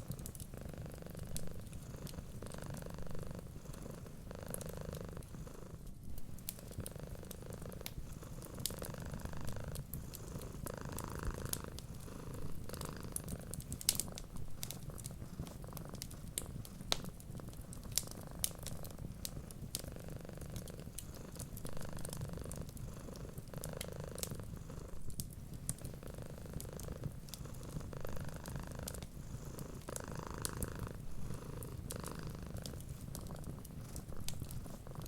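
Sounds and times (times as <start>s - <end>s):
wood fire crackling and popping: 0.0s - 0.6s, 1.2s - 2.6s, 3.8s - 5.2s, 5.8s - 35.0s
cat purring: 0.0s - 35.0s.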